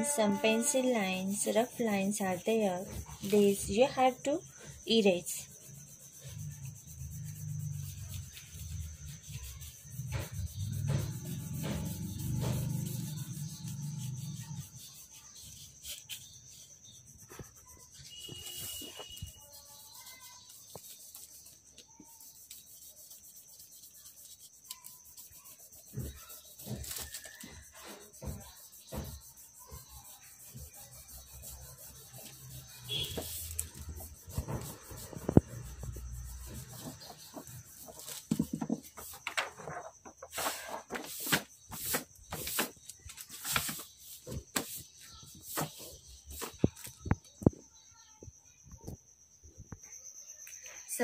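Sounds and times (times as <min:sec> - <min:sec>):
eraser rubbing on paper: 0:00.0 - 0:46.6.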